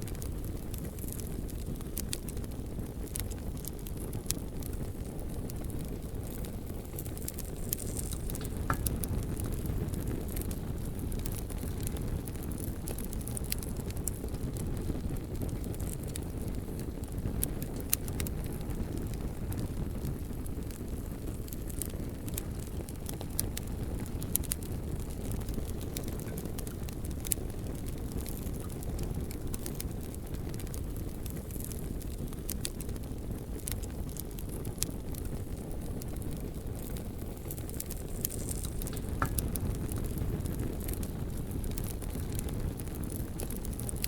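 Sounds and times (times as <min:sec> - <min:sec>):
bonfire crackling and popping: 0:00.0 - 0:44.0.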